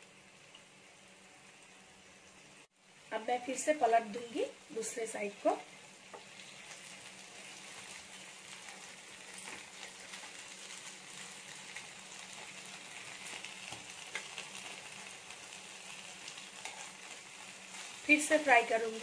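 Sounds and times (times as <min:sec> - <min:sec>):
chicken sizzling on grill pan: 0:00.0 - 0:19.0.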